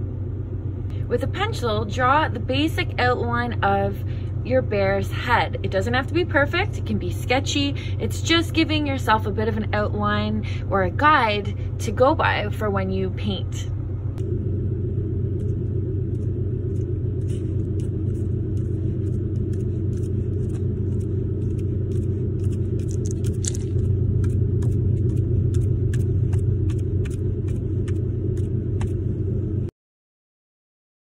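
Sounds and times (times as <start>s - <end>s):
steady low rumble: 0.0s - 29.7s.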